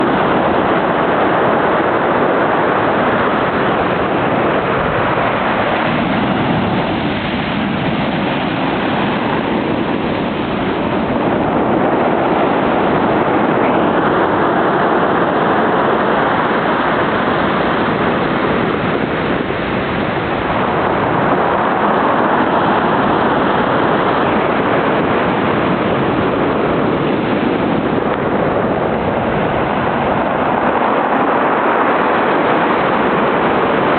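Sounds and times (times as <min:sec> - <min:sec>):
surf breaking on the shore: 0:00.0 - 0:33.9.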